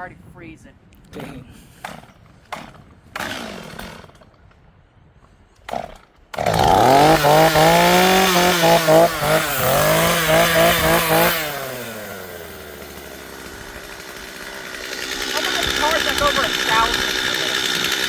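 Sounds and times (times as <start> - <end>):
chainsaw running at high revs: 1.8 - 4.4, 5.7 - 18.0.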